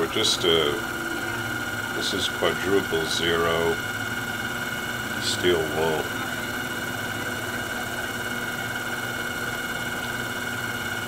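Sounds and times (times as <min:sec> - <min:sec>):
lathe whine and motor hum: 0:00.0 - 0:11.0.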